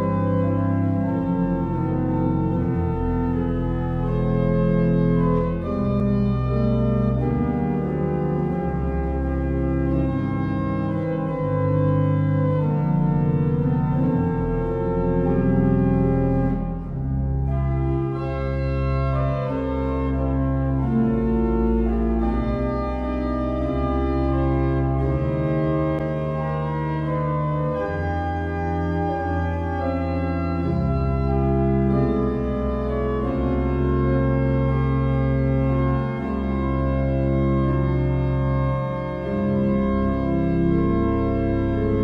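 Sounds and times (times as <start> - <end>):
pipe organ playing chords: 0.0 - 42.0.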